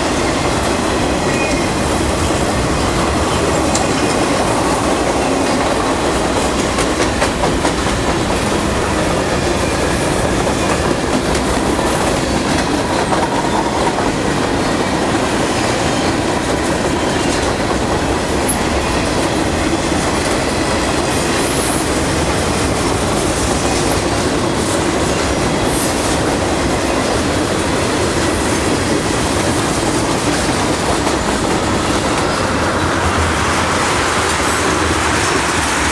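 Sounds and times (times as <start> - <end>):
freight train rumbling past: 0.0 - 35.9
wheels clacking on rails: 0.0 - 35.9.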